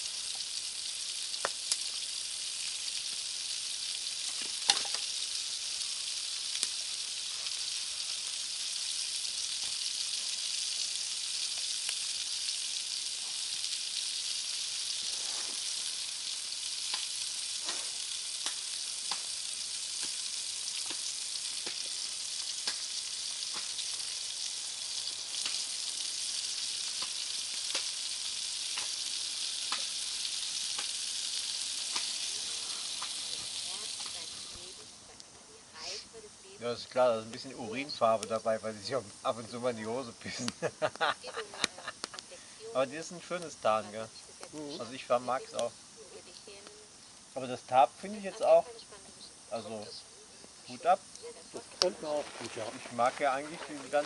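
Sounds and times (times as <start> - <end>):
fire pops and crackles: 0.0 - 54.0
food sizzling in a pan: 0.0 - 54.0.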